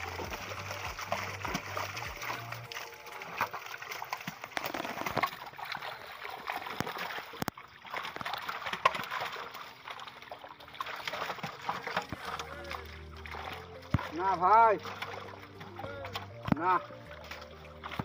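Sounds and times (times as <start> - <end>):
shallow water sloshing and splashing: 0.0 - 18.0.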